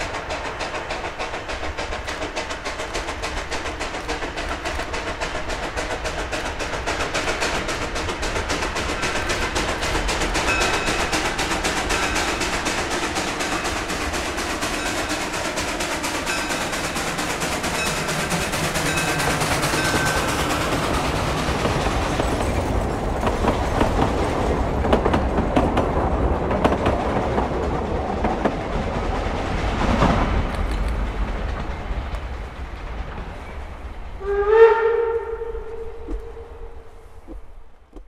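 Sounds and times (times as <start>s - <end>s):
steam locomotive exhaust chuffs: 0.0s - 38.0s
train wheels clacking over rail joints: 0.0s - 38.0s.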